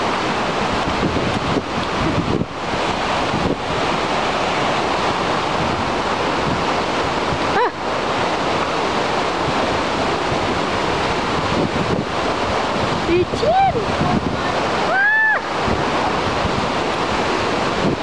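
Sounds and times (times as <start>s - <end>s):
waterfall rushing: 0.0s - 18.0s
wind noise on microphone: 0.0s - 18.0s.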